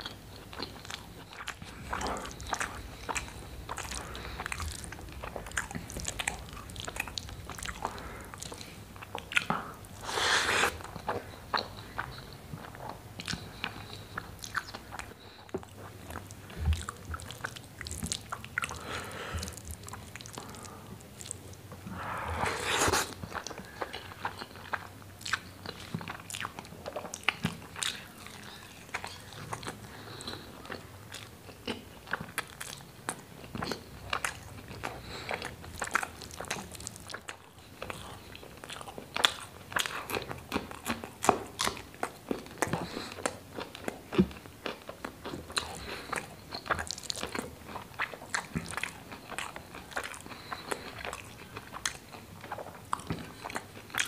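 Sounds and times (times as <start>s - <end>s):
wet chewing and lip smacks: 0.0s - 54.0s.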